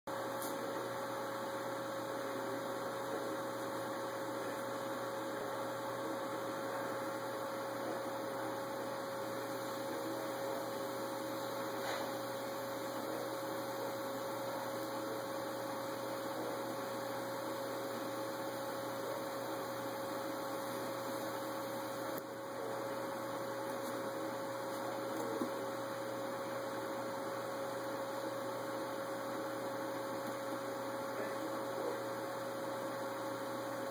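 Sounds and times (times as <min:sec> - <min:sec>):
electrical hum: 0:00.1 - 0:33.9.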